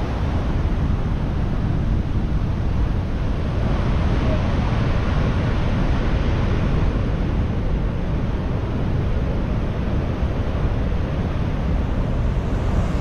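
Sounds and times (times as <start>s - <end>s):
heavy surf breaking on beach: 0.0s - 13.0s
wind buffeting microphone: 0.0s - 13.0s.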